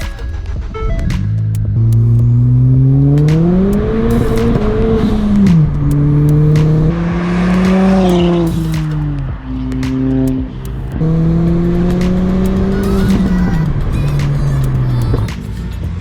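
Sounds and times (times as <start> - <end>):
car engine accelerating hard: 1.6 - 16.0.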